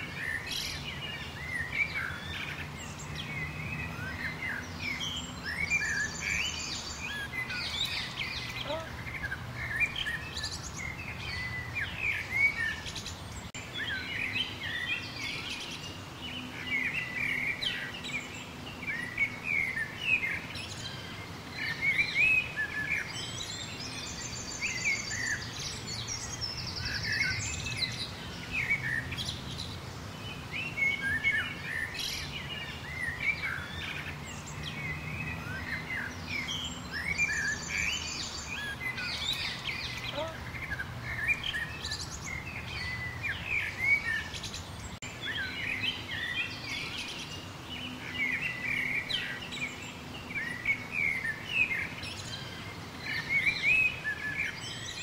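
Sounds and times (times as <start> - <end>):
songbirds chirping chorus: 0.0 - 55.0.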